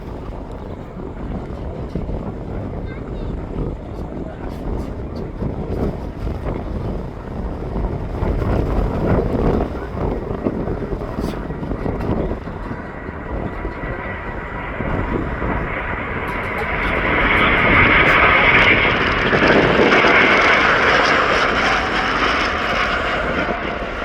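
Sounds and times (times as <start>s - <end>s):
jet engines passing: 0.0s - 24.0s.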